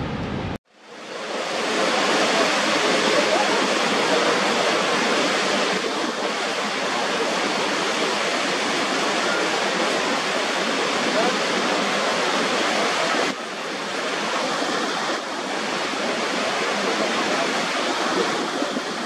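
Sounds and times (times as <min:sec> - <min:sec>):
waterfall rushing: 0:00.8 - 0:19.0.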